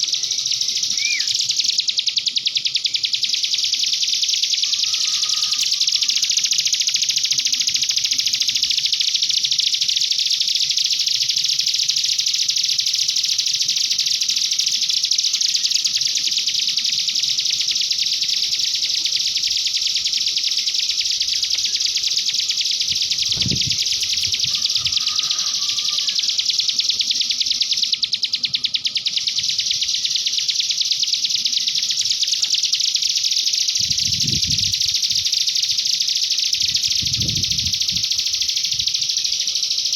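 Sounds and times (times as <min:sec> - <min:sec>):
bird warbling song: 0:00.0 - 0:11.5, 0:12.5 - 0:39.9.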